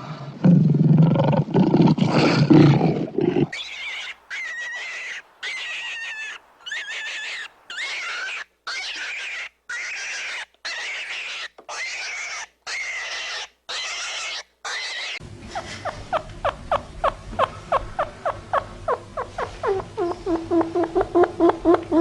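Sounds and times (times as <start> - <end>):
harsh animal call: 1.2 - 22.0.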